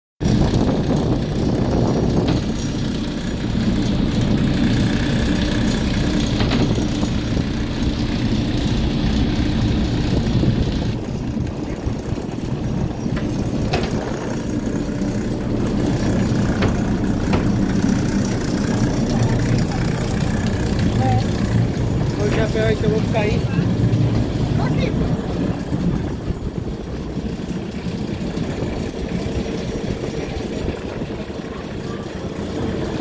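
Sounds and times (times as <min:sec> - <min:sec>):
motorboat engine rumbling: 0:00.2 - 0:33.0
water wash: 0:00.2 - 0:33.0.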